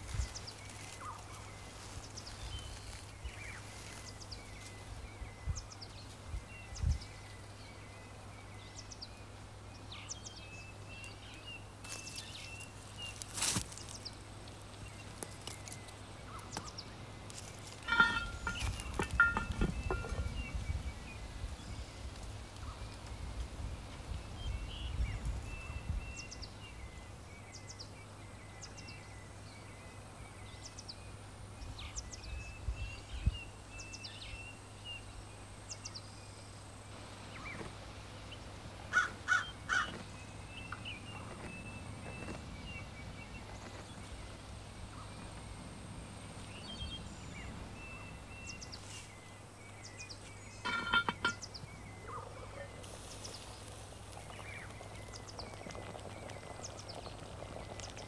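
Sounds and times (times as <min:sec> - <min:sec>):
wild birds calling and chirping: 0:00.0 - 0:23.2, 0:24.3 - 0:58.0
faint steady background noise: 0:00.0 - 0:58.0.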